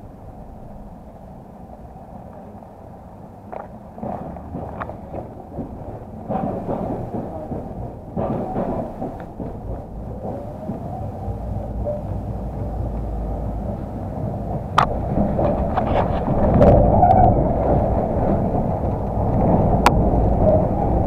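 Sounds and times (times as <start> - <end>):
tram wheels and motor rumble: 0.0 - 21.0.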